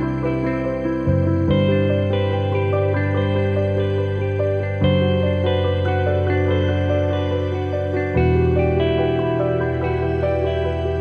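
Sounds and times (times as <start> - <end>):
slow held chords music: 0.0 - 11.0.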